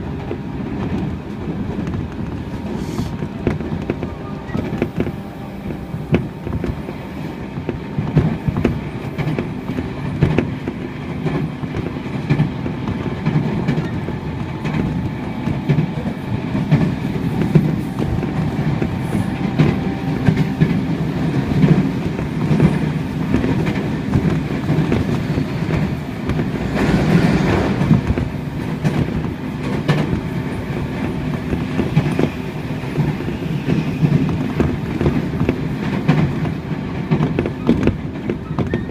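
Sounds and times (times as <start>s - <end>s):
rail joints clickety-clack: 0.0s - 38.9s
train wheels rumbling on track: 0.0s - 38.9s.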